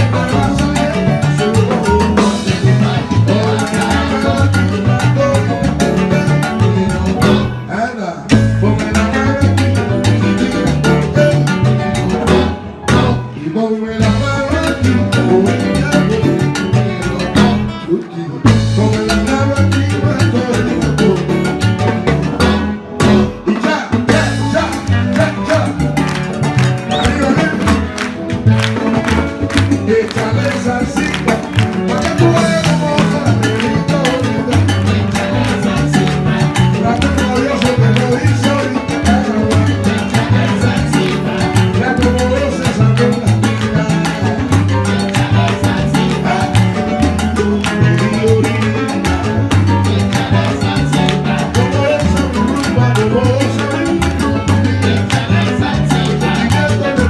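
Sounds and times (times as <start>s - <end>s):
drum kit and percussion beat: 0.0s - 57.0s
live salsa band playing: 0.0s - 57.0s.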